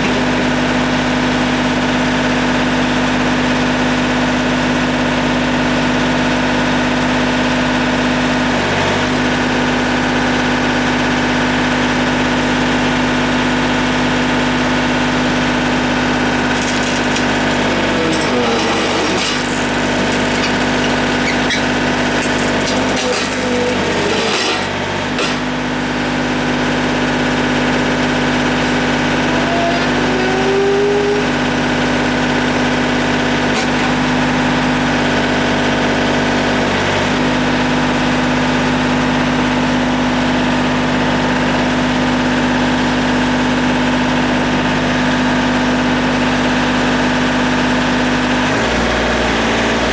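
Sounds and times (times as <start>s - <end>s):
backhoe loader engine running: 0.0s - 49.9s.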